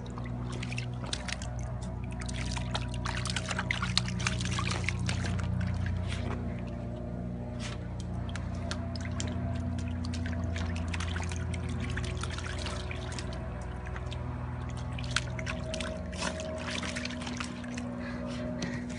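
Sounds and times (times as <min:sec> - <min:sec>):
steady low hum: 0:00.0 - 0:18.9
water splashing in paddling pool: 0:00.0 - 0:18.9.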